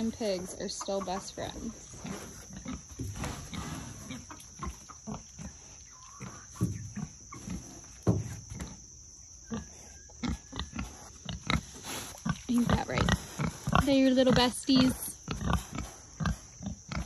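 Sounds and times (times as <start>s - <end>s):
pigs grunting and snuffling: 0.0s - 17.0s.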